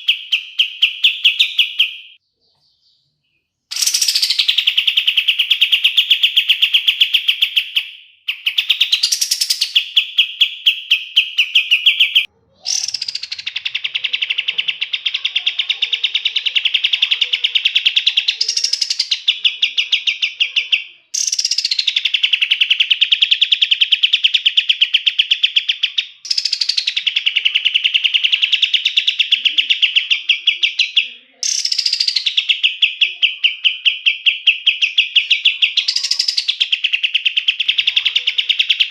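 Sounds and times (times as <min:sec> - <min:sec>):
songbird singing rolling trills: 0:00.0 - 0:38.9.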